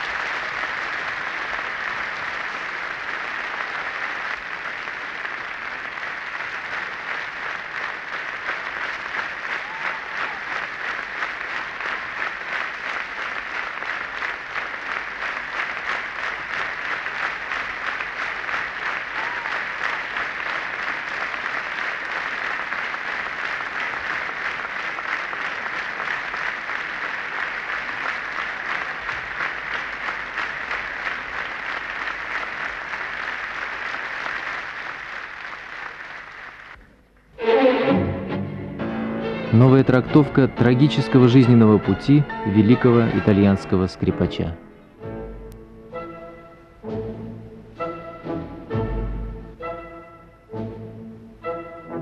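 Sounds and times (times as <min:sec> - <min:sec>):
audience applauding: 0:00.0 - 0:36.9, 0:39.5 - 0:44.5.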